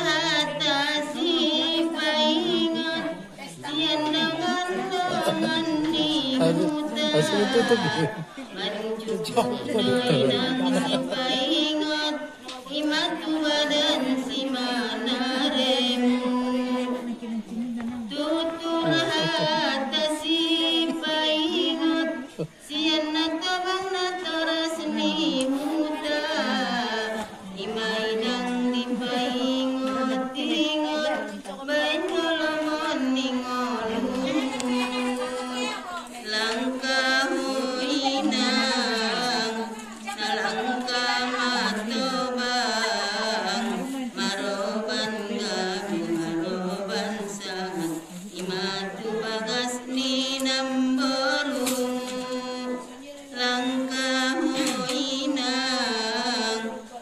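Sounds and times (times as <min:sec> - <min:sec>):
women singing unaccompanied: 0:00.0 - 0:57.0.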